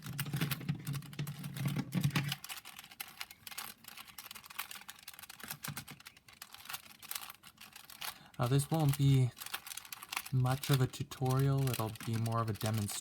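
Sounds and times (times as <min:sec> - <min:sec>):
puzzle cube clacking: 0:00.0 - 0:13.0.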